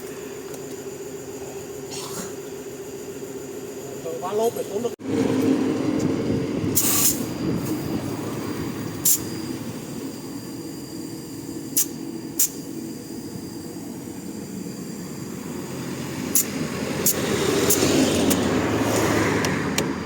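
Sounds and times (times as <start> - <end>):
truck engine rumbling: 3.8 - 20.0.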